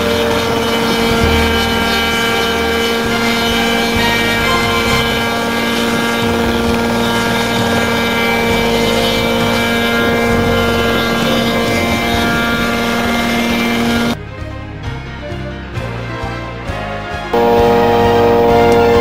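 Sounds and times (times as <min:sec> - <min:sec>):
helicopter hovering: 0:00.0 - 0:14.2, 0:17.4 - 0:19.0
music: 0:00.0 - 0:19.0.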